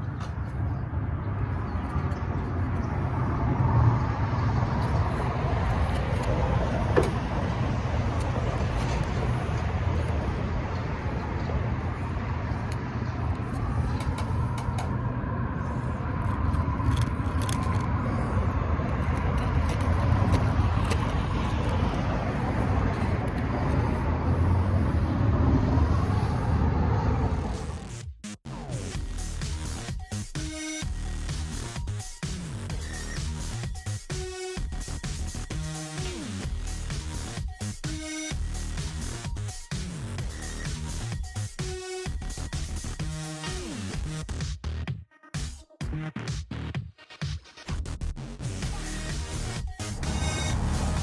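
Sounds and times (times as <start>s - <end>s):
vehicle rumble: 0.0s - 44.4s, 47.8s - 51.0s.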